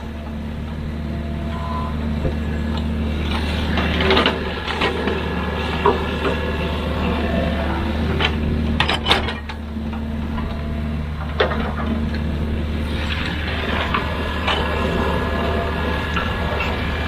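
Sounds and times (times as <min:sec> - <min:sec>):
construction machine engine droning: 0:00.0 - 0:17.0.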